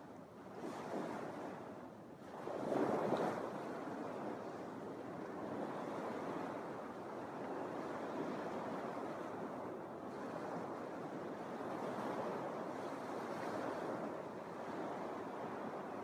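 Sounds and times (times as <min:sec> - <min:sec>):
small waves washing up a beach: 0:00.0 - 0:16.0.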